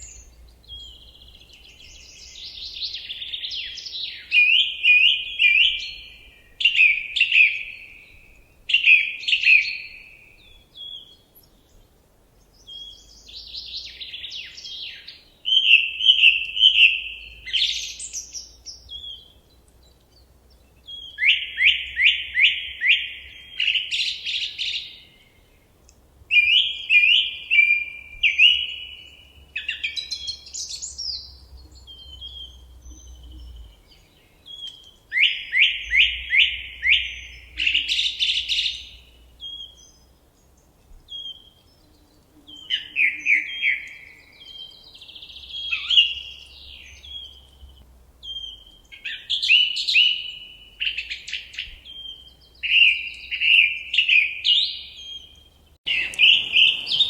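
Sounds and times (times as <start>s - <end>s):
soft chirps of other birds: 0.0s - 57.0s
songbird singing: 0.0s - 57.0s.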